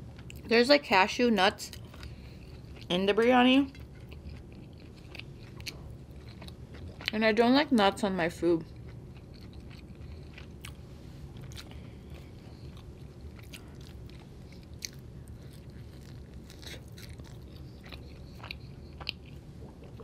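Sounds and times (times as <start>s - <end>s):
person chewing bread: 1.7s - 7.2s, 8.6s - 20.0s.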